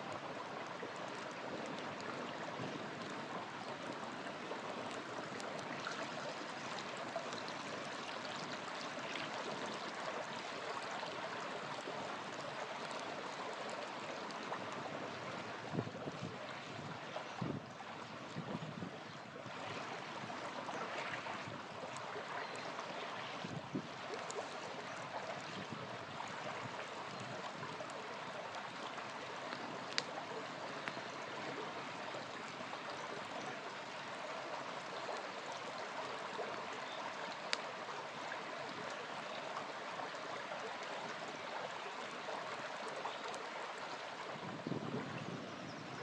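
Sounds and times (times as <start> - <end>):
campfire crackles: 0.0 - 45.4
small river flowing: 0.0 - 46.0.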